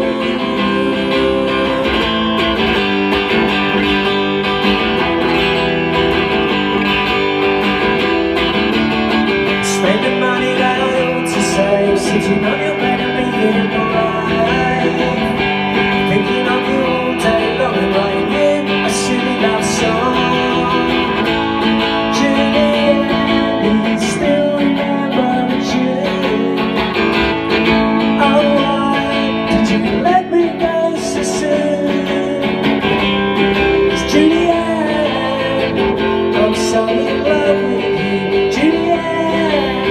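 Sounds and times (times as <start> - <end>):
man singing: 0.0 - 4.1, 9.4 - 39.9
electric guitar strumming chords: 0.0 - 39.9.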